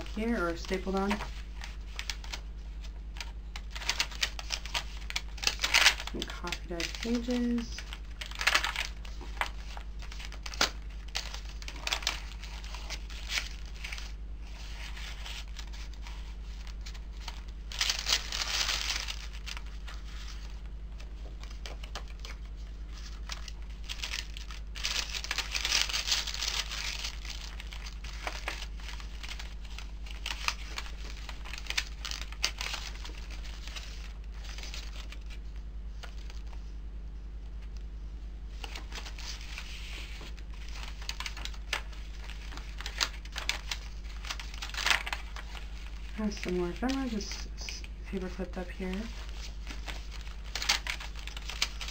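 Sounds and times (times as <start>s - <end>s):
paper pages rustling and crinkling: 0.0s - 37.9s, 38.5s - 51.9s
steady low hum: 0.0s - 51.9s.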